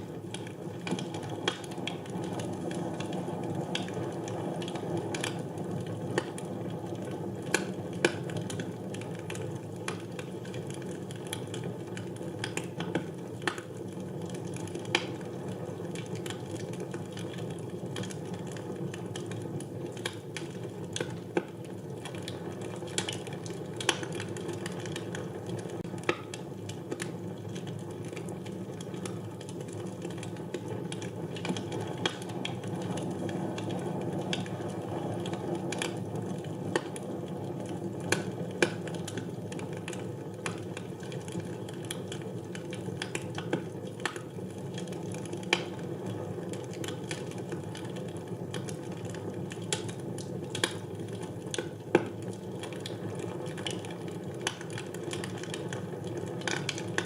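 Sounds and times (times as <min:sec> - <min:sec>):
loud snaps of fire: 0:00.0 - 0:57.0
wood fire crackling: 0:00.0 - 0:57.0.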